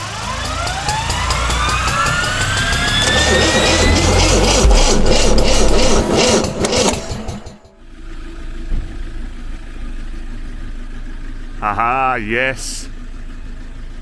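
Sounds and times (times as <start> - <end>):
vehicle engine running and idling: 0.0 - 14.0.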